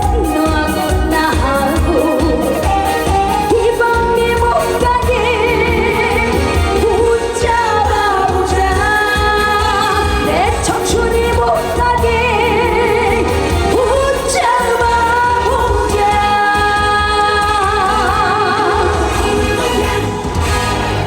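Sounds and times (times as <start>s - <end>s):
woman singing: 0.0s - 20.9s
amplified backing band: 0.0s - 21.0s.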